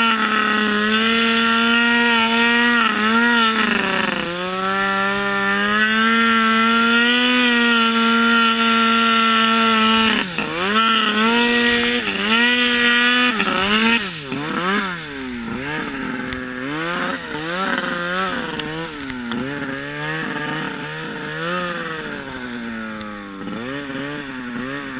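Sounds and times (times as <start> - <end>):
snowmobile engine revving: 0.0 - 24.9.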